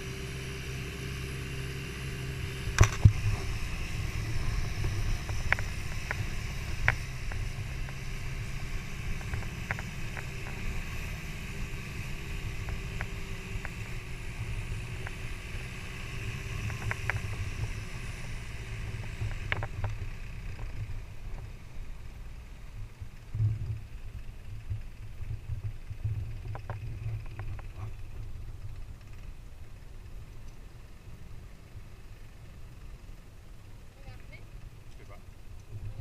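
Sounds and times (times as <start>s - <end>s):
boat engine rumbling: 0.0s - 36.0s.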